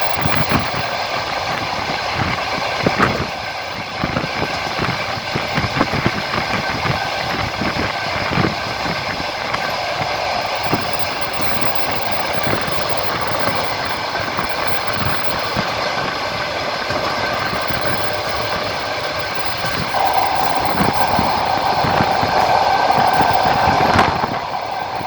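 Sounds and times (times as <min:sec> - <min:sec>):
train rolling rumble: 0:00.0 - 0:25.0.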